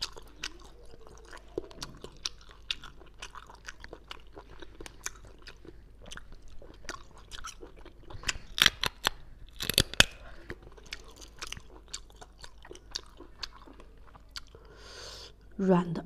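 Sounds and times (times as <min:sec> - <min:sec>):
wet chewing with mouth clicks: 0:00.0 - 0:14.8.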